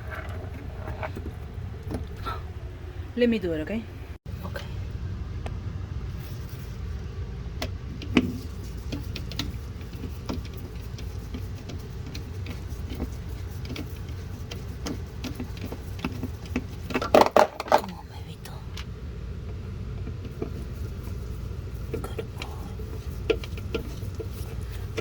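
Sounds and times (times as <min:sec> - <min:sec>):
steady low rumble: 0:00.0 - 0:16.9, 0:17.8 - 0:25.0.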